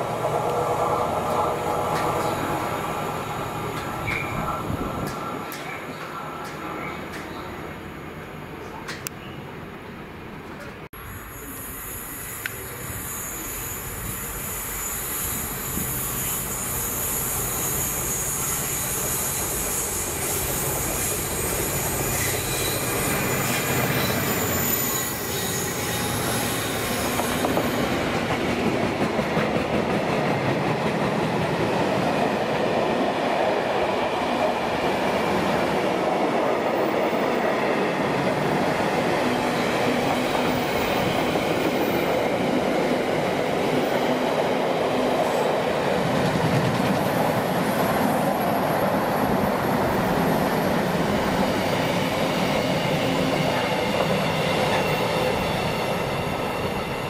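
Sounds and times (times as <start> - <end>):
diesel locomotive passing: 0.0 - 57.0
wheels squealing on rails: 0.4 - 7.7, 11.0 - 30.2, 35.0 - 57.0.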